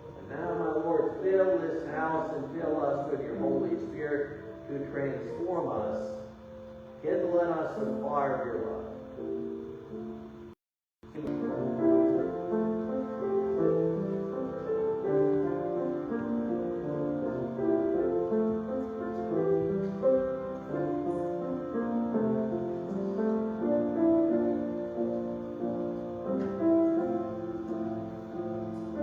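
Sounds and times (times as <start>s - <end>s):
slow keyboard music: 0.0s - 29.0s.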